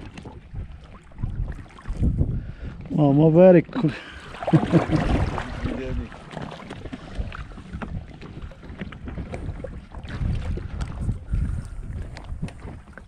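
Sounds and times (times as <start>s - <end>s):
sea waves washing: 0.0s - 13.0s
wind buffeting microphone: 0.0s - 13.0s.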